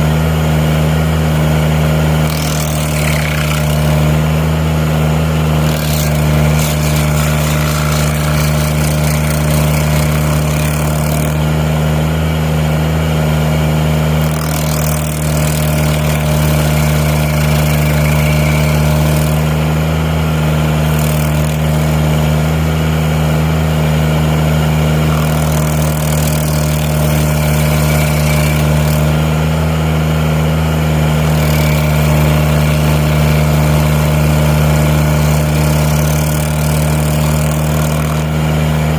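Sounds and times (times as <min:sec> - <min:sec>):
loader engine running: 0:00.0 - 0:38.9
stump grinder hissing: 0:00.0 - 0:38.9.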